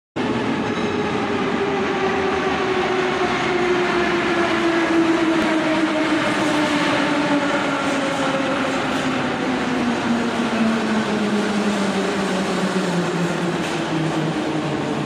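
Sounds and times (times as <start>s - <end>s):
wheels rumbling on rail: 0.2s - 15.0s.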